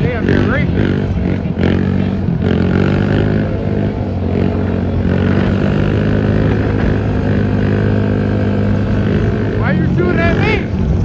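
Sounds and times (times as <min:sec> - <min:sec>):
moving vehicle rush: 0:00.0 - 0:11.0
quad engine running: 0:00.0 - 0:11.0.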